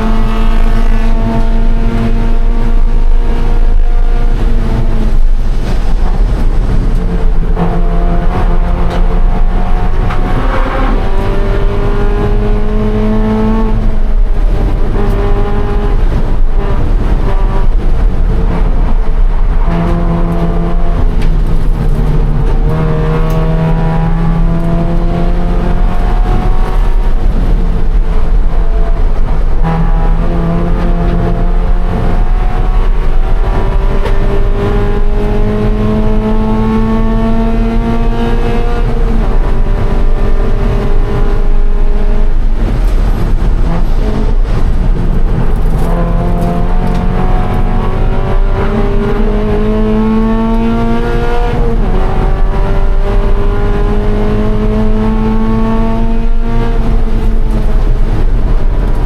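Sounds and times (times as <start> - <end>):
car engine revving: 0.0 - 59.0
wind and tyre noise: 0.0 - 59.0.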